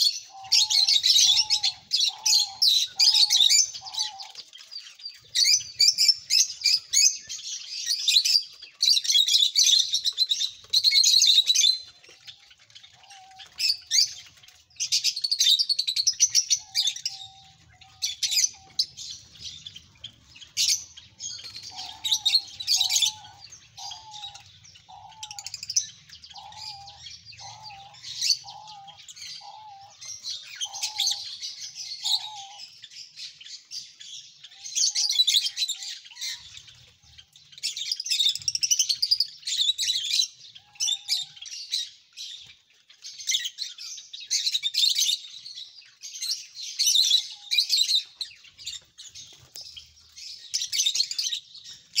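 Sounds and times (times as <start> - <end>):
caged birds chirping: 0.0 - 52.0.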